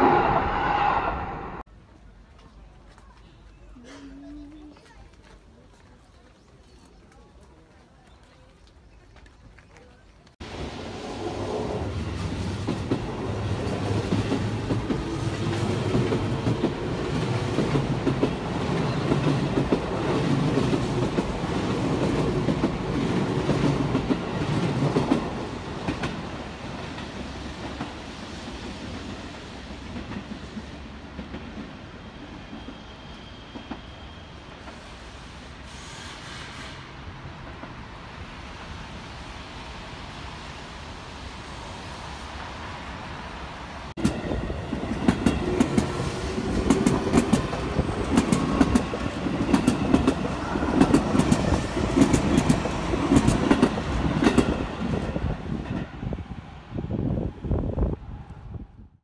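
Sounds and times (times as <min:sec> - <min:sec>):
electric train passing: 0:00.0 - 0:01.7, 0:10.4 - 0:58.7.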